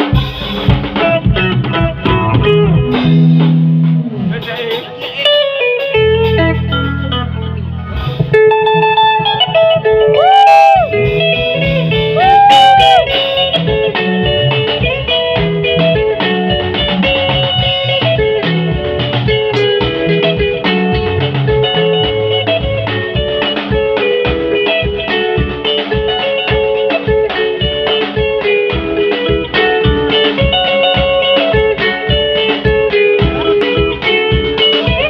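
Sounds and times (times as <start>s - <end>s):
electric guitar lead line: 0.0s - 35.0s.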